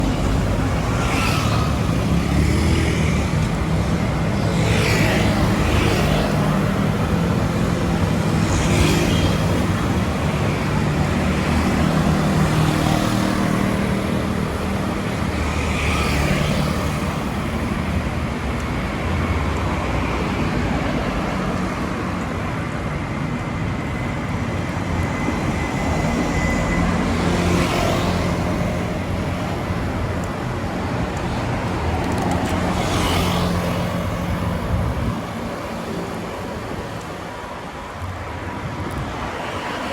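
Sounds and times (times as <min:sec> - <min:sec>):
low traffic rumble: 0:00.0 - 0:39.9.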